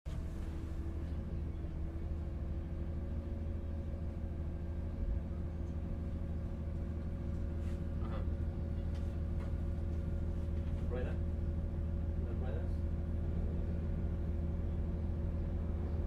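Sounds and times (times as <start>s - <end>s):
bus engine and road rumble: 0.0s - 16.0s
constant hum: 0.1s - 16.0s.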